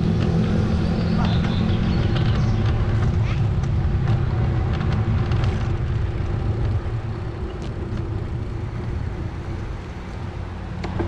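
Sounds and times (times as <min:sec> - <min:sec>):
bicycle riding rumble: 0:00.0 - 0:11.0.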